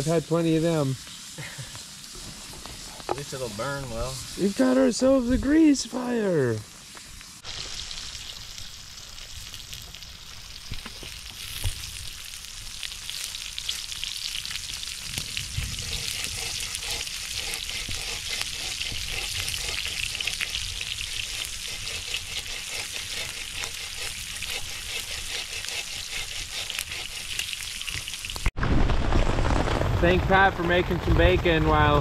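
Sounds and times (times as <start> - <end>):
bacon sizzling and spitting: 0.0 - 28.6.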